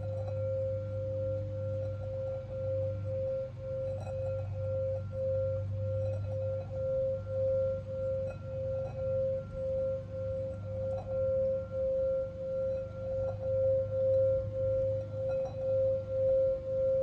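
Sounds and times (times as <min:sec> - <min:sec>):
crystal singing bowl ringing: 0:00.0 - 0:17.0.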